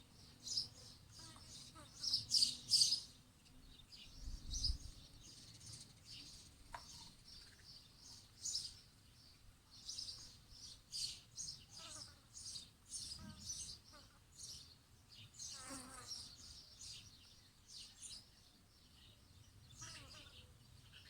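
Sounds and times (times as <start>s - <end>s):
small songbirds chirping: 0.0s - 21.0s.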